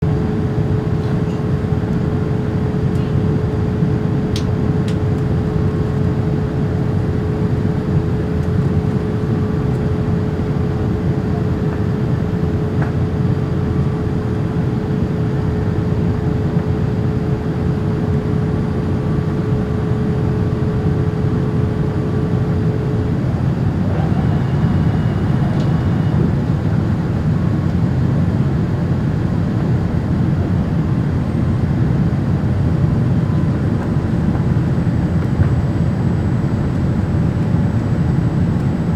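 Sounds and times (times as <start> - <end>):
airplane cabin airflow and engine noise: 0.0 - 38.9.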